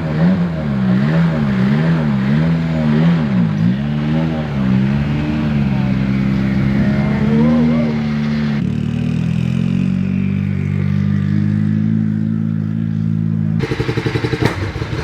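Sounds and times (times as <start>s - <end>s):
rally car engines running: 0.0s - 15.0s.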